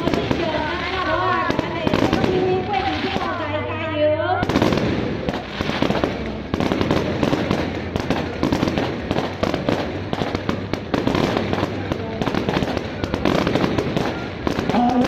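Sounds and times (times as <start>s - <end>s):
firecrackers crackling: 0.0s - 15.0s.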